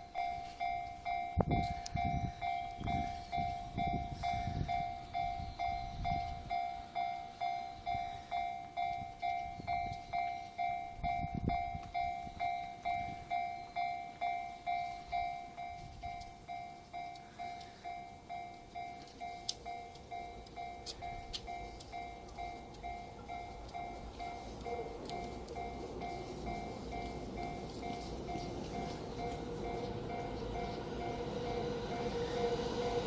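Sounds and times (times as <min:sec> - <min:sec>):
level crossing warning bell: 0:00.0 - 0:33.0
passing train rumble: 0:00.0 - 0:33.0.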